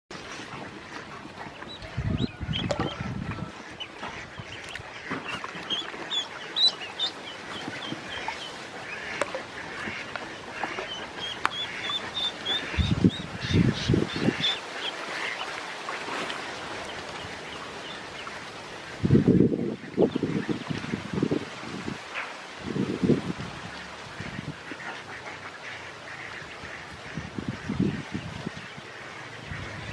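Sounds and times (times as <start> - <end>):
ducklings peeping: 0.5 - 15.6, 16.8 - 21.0, 24.2 - 29.9.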